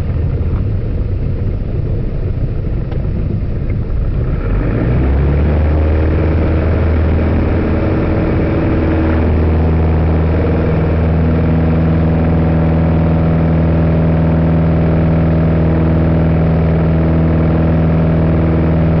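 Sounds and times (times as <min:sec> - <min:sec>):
plane engine and propeller droning: 0:00.0 - 0:19.0.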